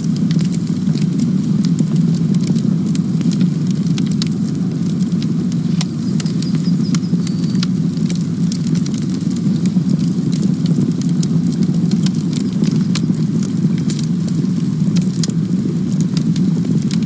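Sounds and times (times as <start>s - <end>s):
low rumble of flames: 0.0s - 17.0s
wood crackling and popping: 0.0s - 17.0s.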